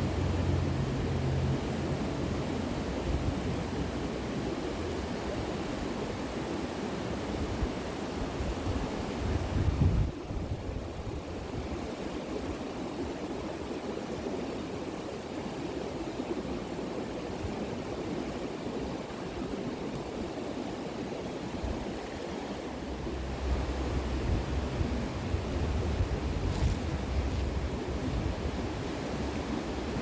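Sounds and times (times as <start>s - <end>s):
steady rushing outdoor noise: 0.0s - 30.0s
wind gusts buffeting microphone: 0.0s - 30.0s.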